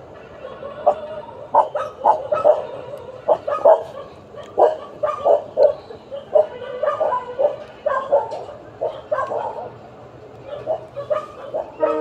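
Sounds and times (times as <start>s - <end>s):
dog yipping and barking: 0.4s - 9.7s, 10.5s - 12.0s.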